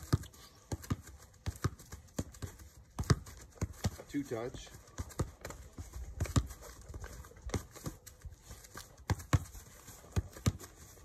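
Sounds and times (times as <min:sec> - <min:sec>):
ball hitting wood: 0:00.0 - 0:06.9, 0:08.8 - 0:10.7
foot kicking ball: 0:00.0 - 0:10.9.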